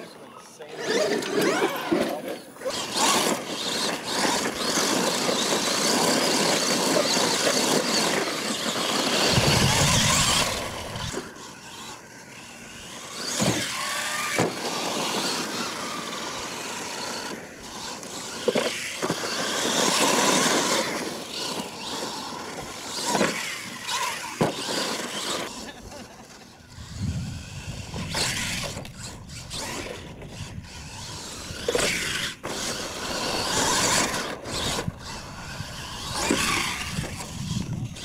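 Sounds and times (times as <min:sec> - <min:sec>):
toy truck motor whining: 0:00.4 - 0:38.0
tyres scrabbling through dirt: 0:00.7 - 0:38.0.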